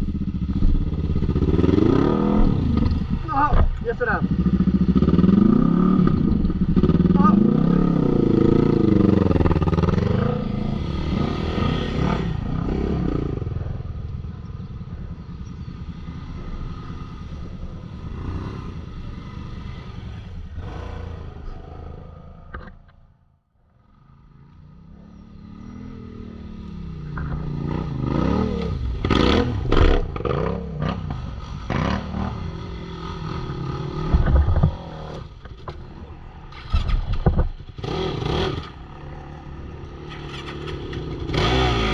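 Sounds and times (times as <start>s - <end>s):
atv engines revving: 0.0s - 23.0s, 23.8s - 41.9s.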